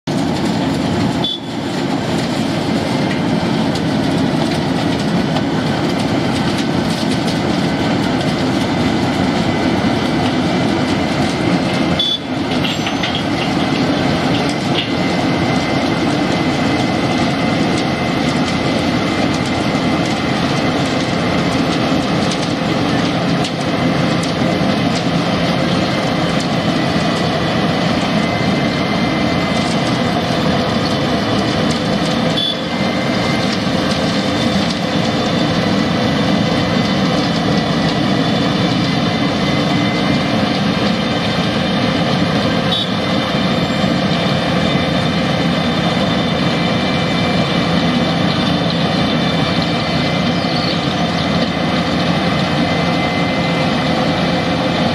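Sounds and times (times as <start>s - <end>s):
milling machine grinding rumble: 0.1s - 54.9s.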